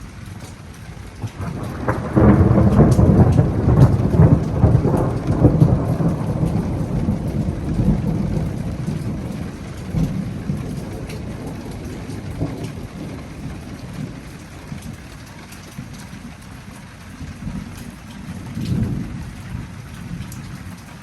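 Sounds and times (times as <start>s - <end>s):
rain falling: 0.0s - 21.0s
thunder rolling: 1.2s - 16.4s, 17.2s - 21.0s.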